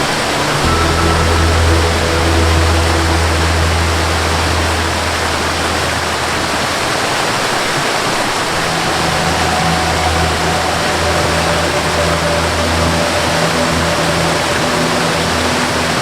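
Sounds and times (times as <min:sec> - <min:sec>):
soft sustained melody notes: 0:00.0 - 0:16.0
waterfall roaring: 0:00.0 - 0:16.0.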